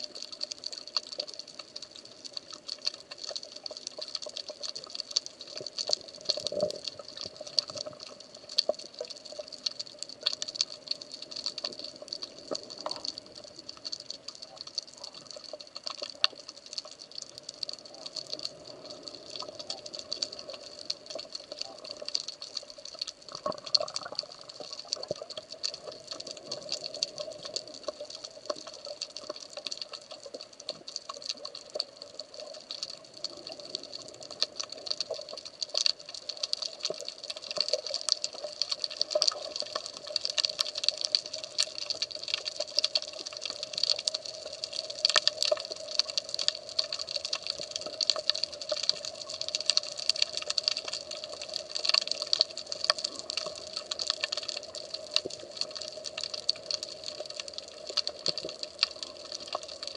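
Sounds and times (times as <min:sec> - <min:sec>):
underwater crackle of clicks: 0:00.0 - 0:59.9
underwater hum: 0:00.0 - 0:59.9.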